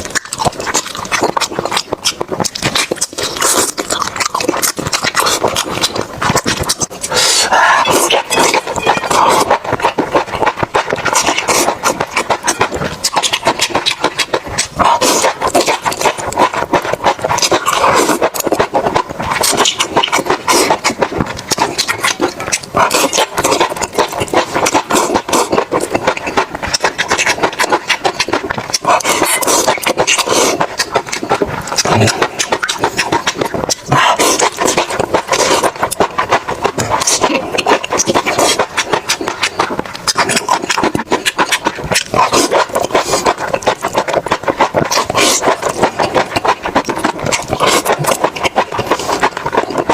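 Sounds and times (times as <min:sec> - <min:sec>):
chewing and mouth noises: 0:00.0 - 0:49.9.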